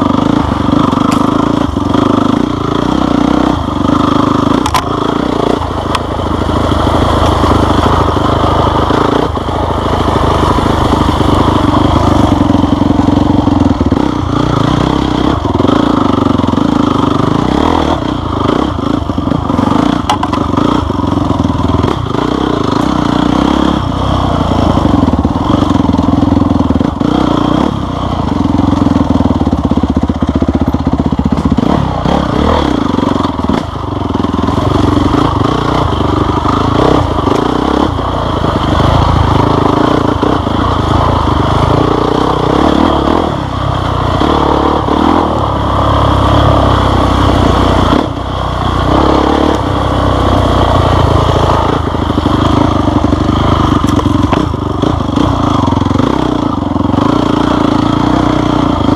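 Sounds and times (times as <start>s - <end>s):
motorcycle engine revving: 0.0s - 58.9s
rattling over rough ground: 0.0s - 58.9s.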